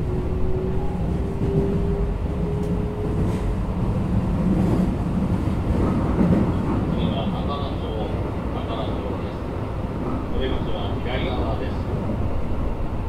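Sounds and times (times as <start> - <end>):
train interior low rumble: 0.0 - 13.0.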